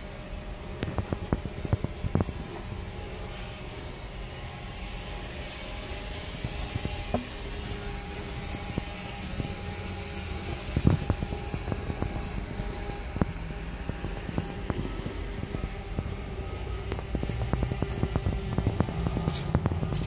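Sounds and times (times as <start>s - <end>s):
drone rotors buzzing: 0.0s - 20.0s.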